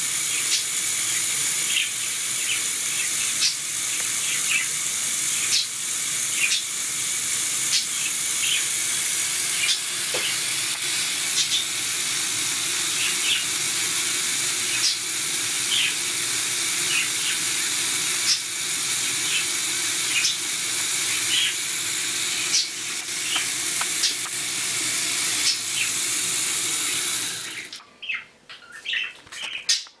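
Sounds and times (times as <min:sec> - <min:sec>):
robot motors and tracks whirring: 0:00.0 - 0:27.8.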